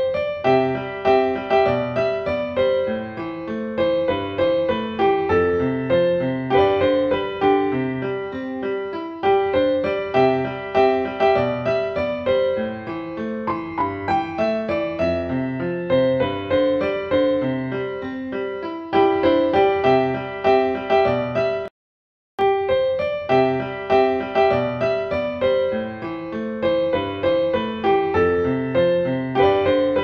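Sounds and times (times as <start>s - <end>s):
piano melody: 0.0s - 21.7s, 22.4s - 30.0s.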